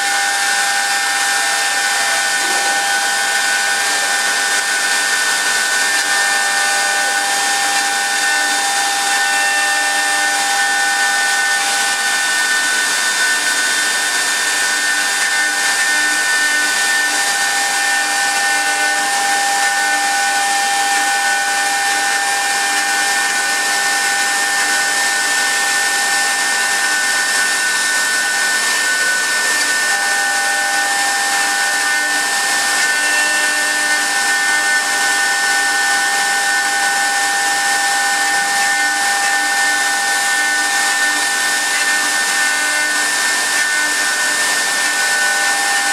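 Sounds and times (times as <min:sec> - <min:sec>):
lathe spindle rushing whine: 0:00.0 - 0:45.9.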